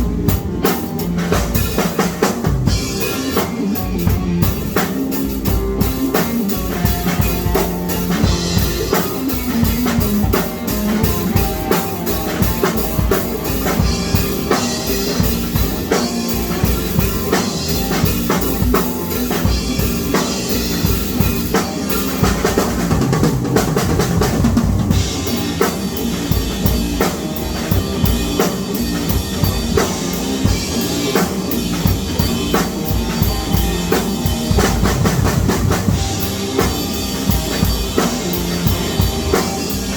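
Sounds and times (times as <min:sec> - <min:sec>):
drum kit playing busy beat: 0:00.0 - 0:39.9.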